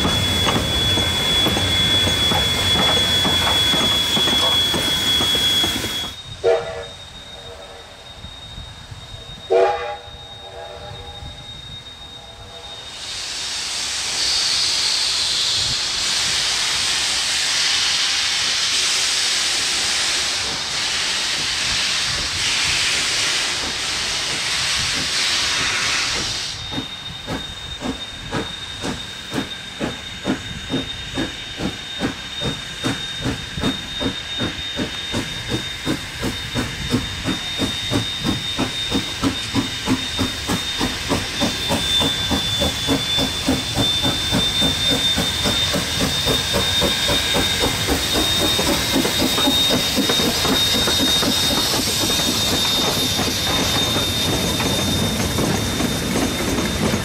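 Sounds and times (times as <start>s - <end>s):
steam hissing: 0.0s - 57.0s
steam locomotive exhaust chuffs: 0.0s - 57.0s.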